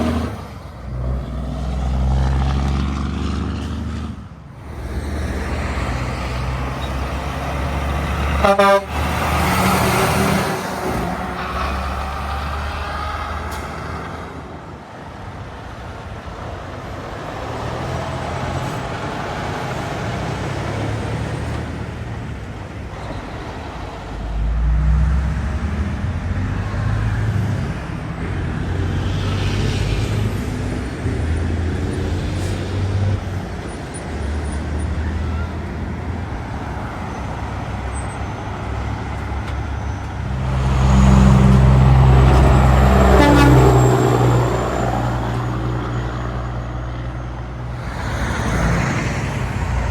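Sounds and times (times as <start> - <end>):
trucks and cars passing: 0.0 - 49.9.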